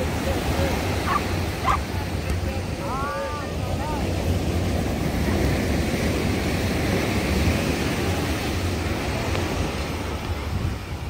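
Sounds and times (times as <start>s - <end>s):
surf breaking on shore: 0.0s - 11.0s
wind rumbling on microphone: 0.0s - 11.0s.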